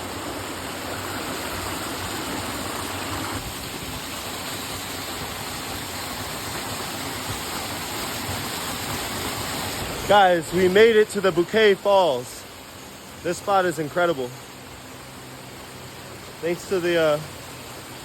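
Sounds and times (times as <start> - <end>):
water rushing over waterfall: 0.0 - 18.0.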